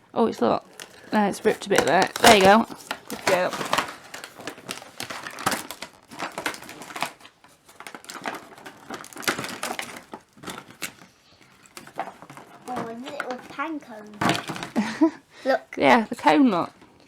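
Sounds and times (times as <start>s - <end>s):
packaging crackling and crinkling: 0.6s - 15.1s.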